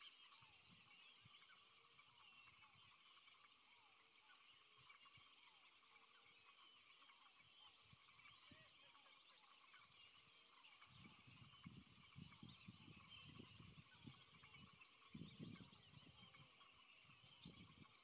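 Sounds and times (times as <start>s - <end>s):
distant small chirping calls: 0.0s - 18.0s.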